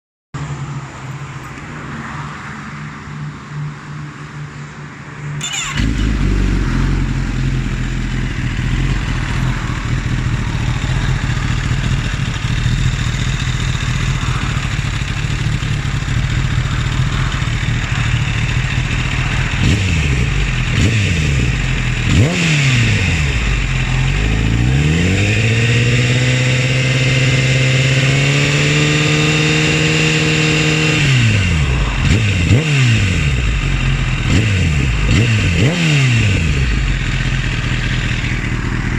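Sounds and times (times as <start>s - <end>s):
motorcycle engine idling and revving: 0.4s - 38.9s.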